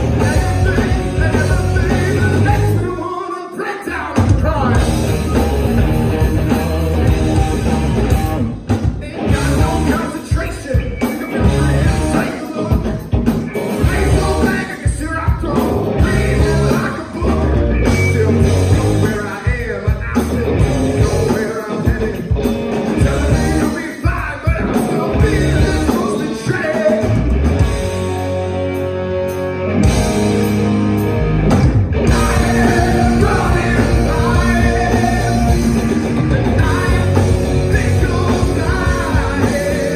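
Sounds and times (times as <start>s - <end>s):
lead vocals: 0.0s - 27.9s, 31.9s - 39.9s
live rock band: 0.0s - 39.9s.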